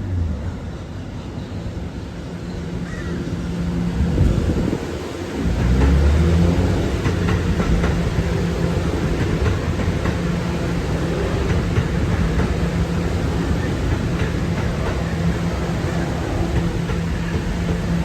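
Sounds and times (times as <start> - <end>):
train humming on rails: 0.0 - 18.0.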